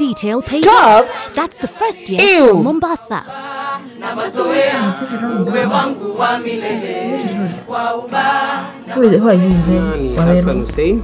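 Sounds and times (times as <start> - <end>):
person singing unaccompanied: 0.0 - 10.7.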